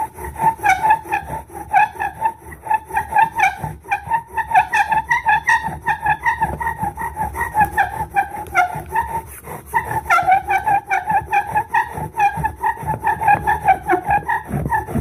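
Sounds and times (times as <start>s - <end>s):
bow drill spindle squealing: 0.0s - 15.0s.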